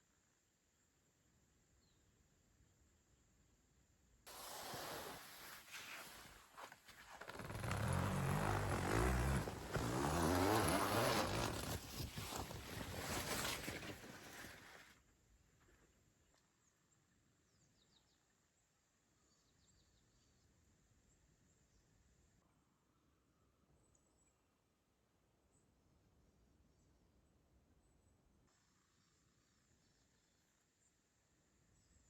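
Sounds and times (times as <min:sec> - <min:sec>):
faint outdoor background: 0:00.0 - 0:32.0.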